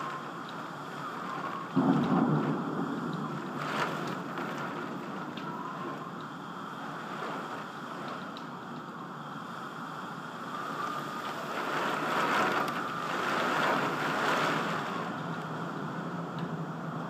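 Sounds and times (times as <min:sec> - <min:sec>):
rain: 0:00.0 - 0:17.0
wind buffeting microphone: 0:00.0 - 0:17.0.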